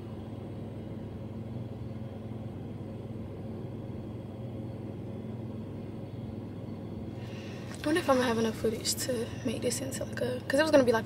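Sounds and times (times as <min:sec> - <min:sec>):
faint even hum: 0:00.0 - 0:11.0.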